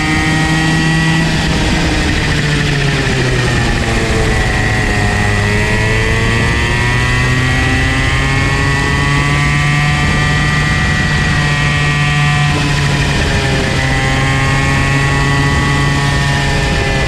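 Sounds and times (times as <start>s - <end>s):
two-stroke kart engine running: 0.0s - 17.0s.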